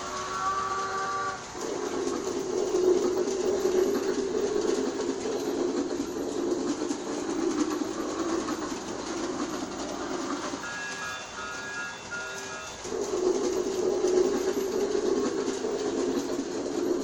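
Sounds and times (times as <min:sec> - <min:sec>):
toy train motor and wheels rumbling: 0:00.0 - 0:17.0.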